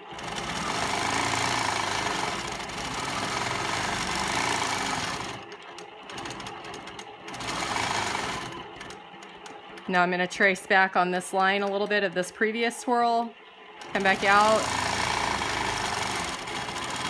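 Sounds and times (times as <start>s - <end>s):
quilting machine stitching: 0.0s - 12.8s, 13.8s - 17.0s.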